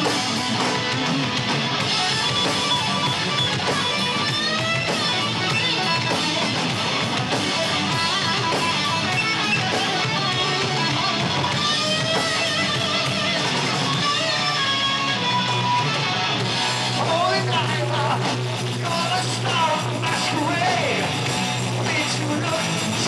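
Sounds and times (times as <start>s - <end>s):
electric guitar lead bending pitch: 0.0s - 23.0s
live rock band playing: 0.0s - 23.0s.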